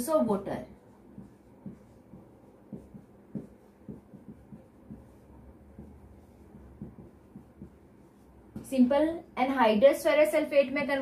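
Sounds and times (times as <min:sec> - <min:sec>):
marker pen writing on whiteboard: 0:00.0 - 0:09.1.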